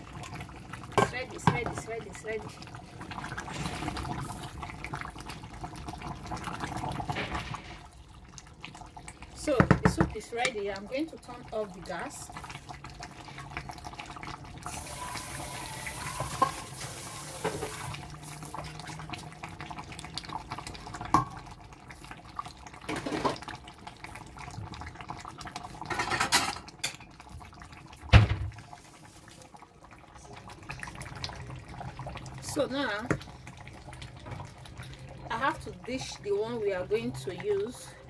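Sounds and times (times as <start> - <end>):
soup bubbling in a pot: 0.0 - 38.0.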